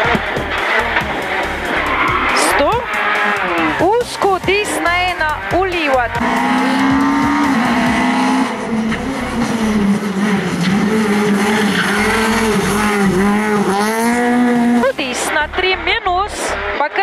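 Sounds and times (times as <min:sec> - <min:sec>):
rally car engine revving high: 0:00.0 - 0:17.0.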